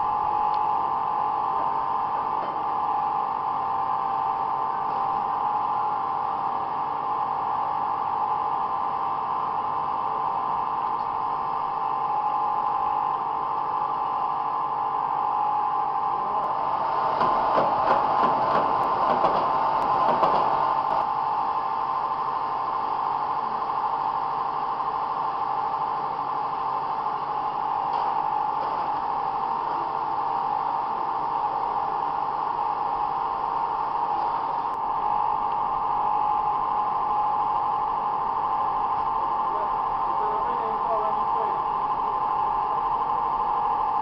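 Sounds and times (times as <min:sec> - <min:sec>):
mixing and pumping machine hum: 0:00.0 - 0:44.0.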